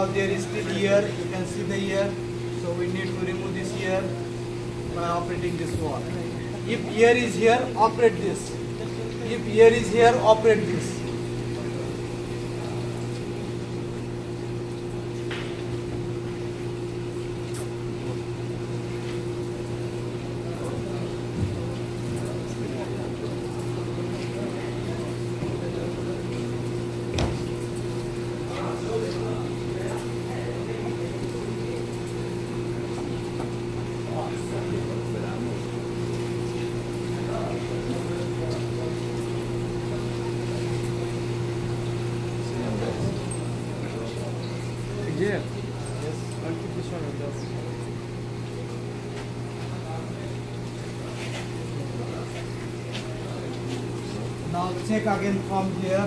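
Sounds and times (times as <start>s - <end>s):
pump motor humming: 0.0s - 56.0s.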